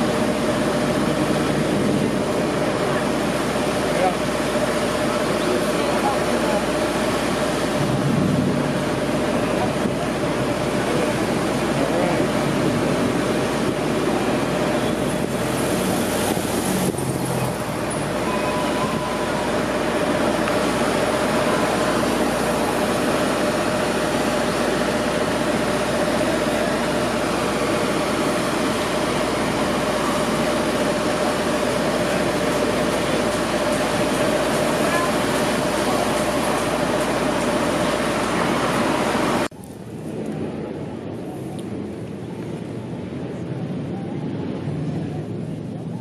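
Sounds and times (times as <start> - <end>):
traffic driving past: 0.0 - 39.5
constant low hum: 0.0 - 46.0.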